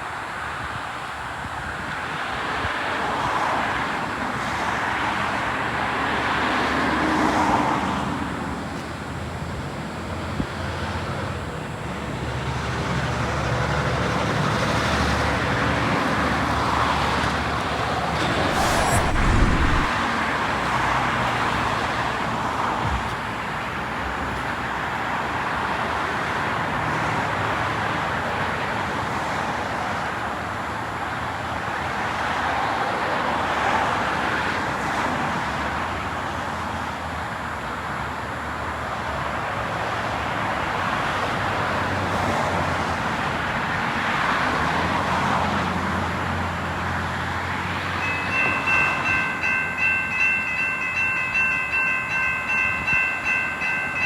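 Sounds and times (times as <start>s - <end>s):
road traffic passing: 0.1s - 32.2s, 39.5s - 54.0s.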